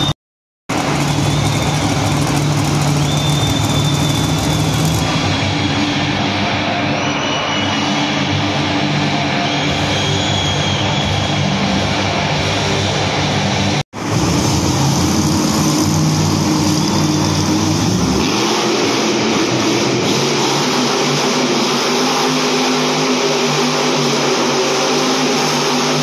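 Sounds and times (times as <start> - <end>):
monster truck engine running: 0.7 - 26.0.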